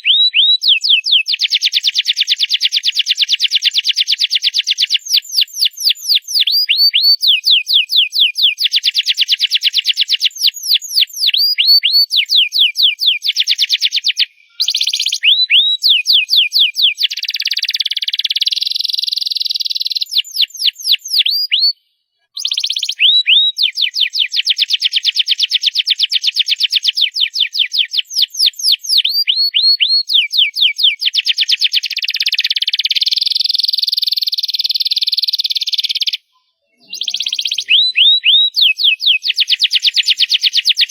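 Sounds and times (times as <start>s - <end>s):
canary singing trills: 0.0s - 21.8s, 22.4s - 40.9s.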